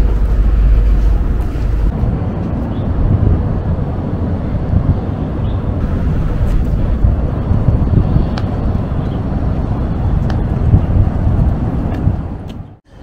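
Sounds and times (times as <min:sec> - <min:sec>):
wind buffeting the microphone: 0:00.0 - 0:12.8.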